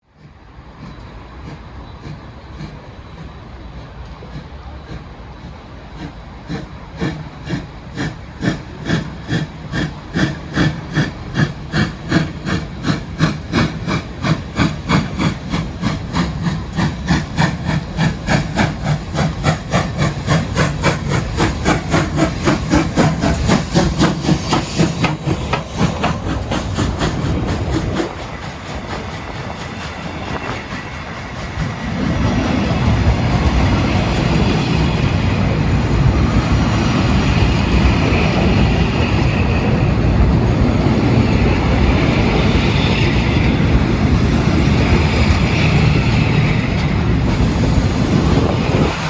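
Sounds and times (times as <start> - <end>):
steam locomotive chuffing: 0.0 - 49.0.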